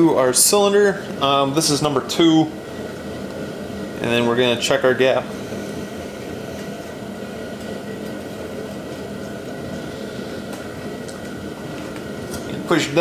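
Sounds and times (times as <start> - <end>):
heater fan hum: 0.0 - 13.0.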